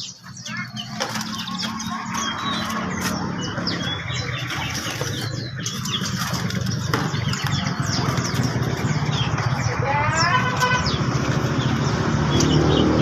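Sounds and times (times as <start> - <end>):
songbirds chirping: 0.0 - 13.0
wings fluttering: 0.5 - 12.0.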